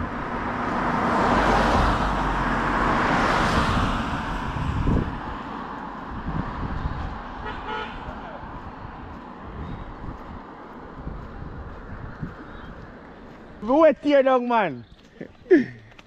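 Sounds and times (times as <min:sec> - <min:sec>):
vehicle passing by: 0:00.0 - 0:13.6.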